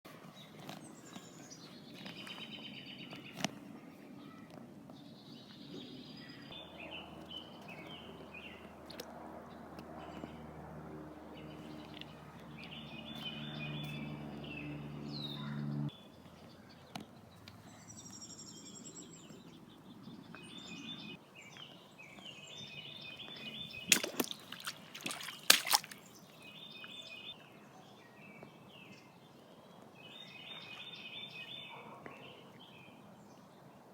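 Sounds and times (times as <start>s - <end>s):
birds chirping: 0.3s - 8.8s, 11.2s - 33.5s.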